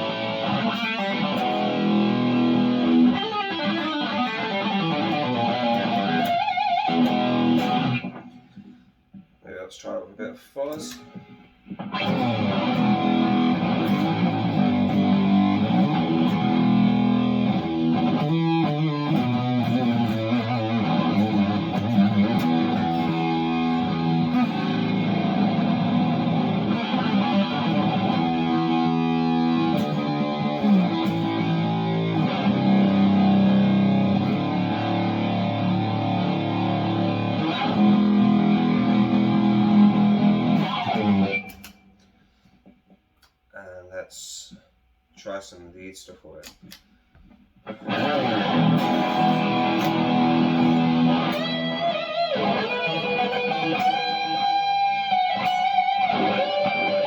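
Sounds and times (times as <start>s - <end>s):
fuzz electric guitar chords and riffs: 0.0s - 8.6s, 11.0s - 41.7s, 47.7s - 57.0s.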